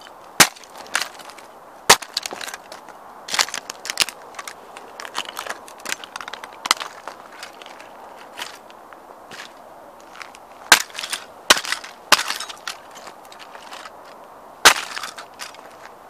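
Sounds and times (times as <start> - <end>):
gravel crunching underfoot: 0.0 - 16.0.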